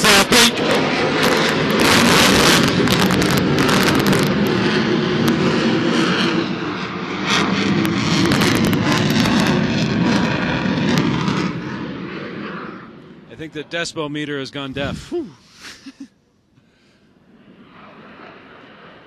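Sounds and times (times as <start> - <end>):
fighter jet flying overhead: 0.0 - 15.0, 16.7 - 19.0.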